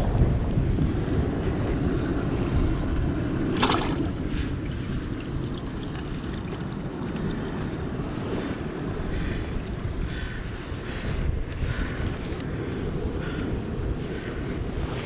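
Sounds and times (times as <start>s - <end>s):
sea surf on rocks: 0.0s - 15.0s
wind buffeting microphone: 0.0s - 15.0s.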